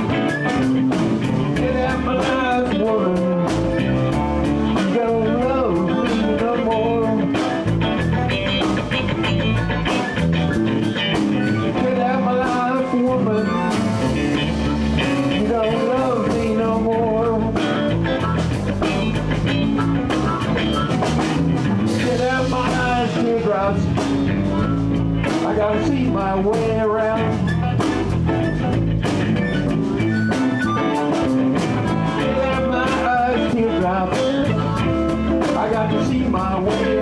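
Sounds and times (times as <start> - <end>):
lead guitar line bending pitch: 0.0 - 37.0
live blues band playing: 0.0 - 37.0.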